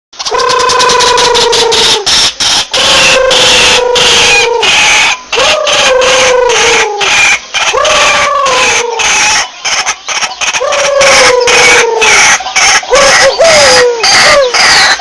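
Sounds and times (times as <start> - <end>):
waterhen calling: 0.2 - 15.0.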